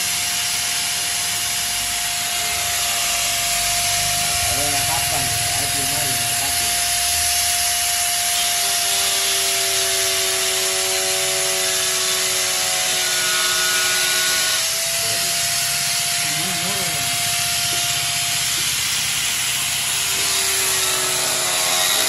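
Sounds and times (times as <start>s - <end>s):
angle grinder cutting plastic: 0.0s - 22.0s.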